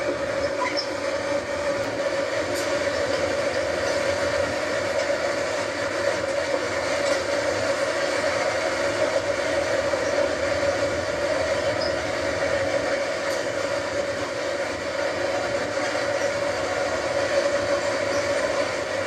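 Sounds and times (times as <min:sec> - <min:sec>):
train running on track: 0:00.0 - 0:19.0.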